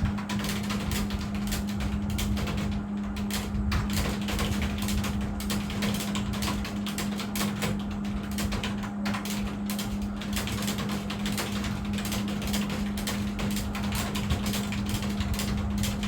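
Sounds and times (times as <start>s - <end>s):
fast keyboard typing: 0.0s - 16.0s
steady low hum: 0.0s - 16.0s.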